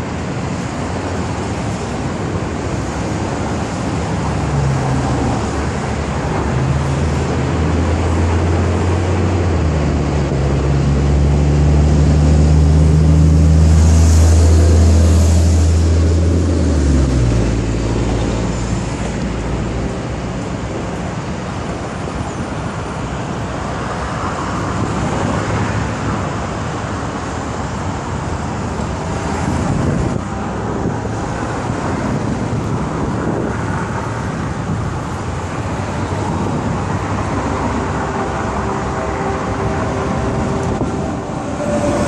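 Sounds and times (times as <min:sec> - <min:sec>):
road traffic noise: 0:00.0 - 0:42.0.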